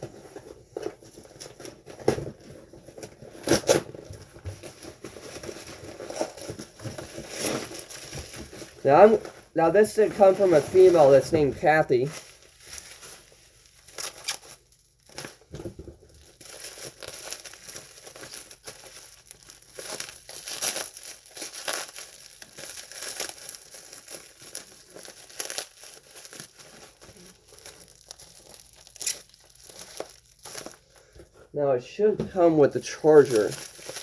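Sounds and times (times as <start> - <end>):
bubble wrap crinkling: 0.0 - 34.0.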